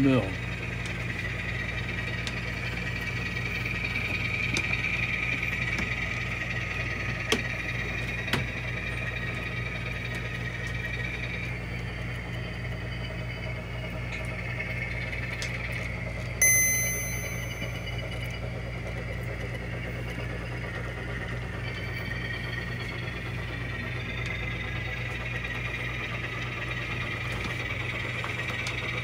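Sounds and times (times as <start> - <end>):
model locomotive engine hum: 0.0 - 29.0.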